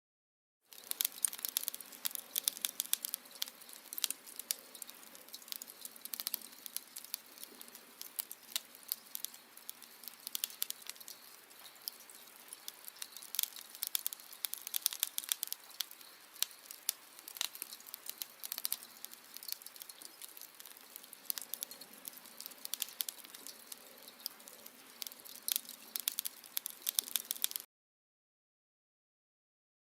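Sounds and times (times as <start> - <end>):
wood fire crackling: 0.7 - 27.7.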